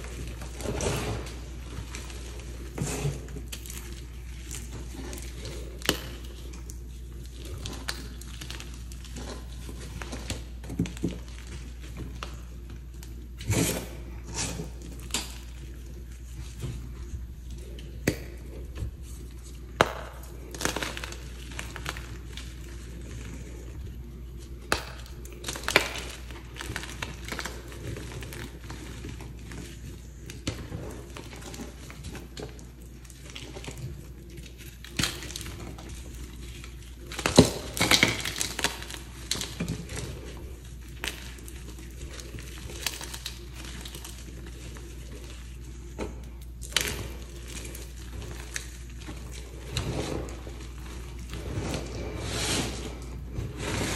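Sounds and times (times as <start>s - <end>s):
hands crushing chalk: 0.0s - 53.9s.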